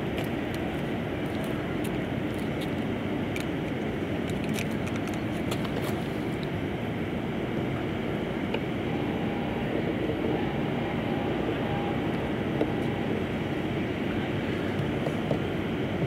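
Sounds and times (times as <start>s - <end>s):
outdoor ambient rumble: 0.0s - 16.0s.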